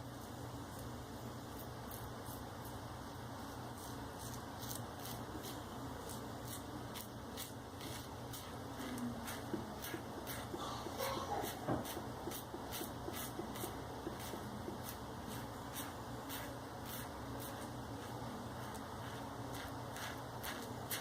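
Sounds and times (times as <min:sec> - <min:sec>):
razor scraping stubble: 0:03.8 - 0:21.0.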